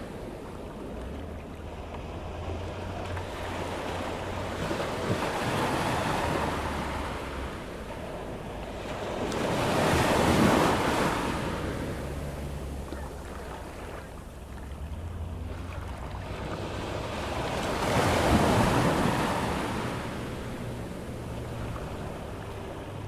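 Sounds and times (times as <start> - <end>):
ocean waves washing onto beach: 0.0 - 23.0.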